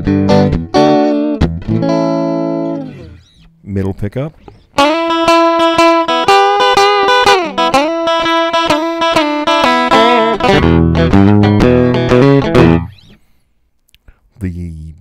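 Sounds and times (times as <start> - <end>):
electric guitar lick: 0.0 - 3.6, 4.4 - 13.4.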